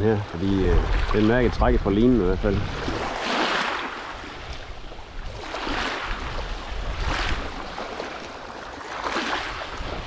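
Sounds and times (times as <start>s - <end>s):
small waves washing on shore: 0.0s - 10.0s
wind rumbling on microphone: 0.0s - 10.0s.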